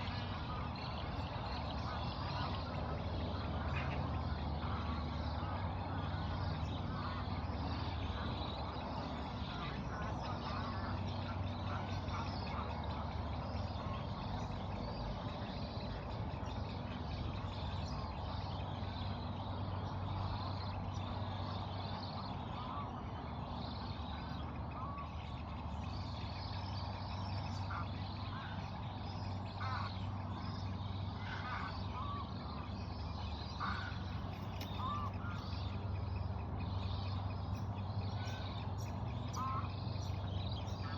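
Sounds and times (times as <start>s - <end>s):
birds calling: 0.0s - 40.9s
low background hum: 0.0s - 40.9s.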